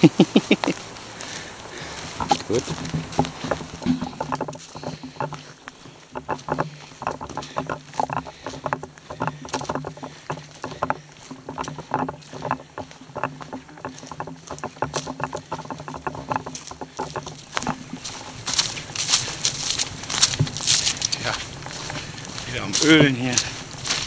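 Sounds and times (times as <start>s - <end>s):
footsteps on dry leaves: 0.0s - 24.0s.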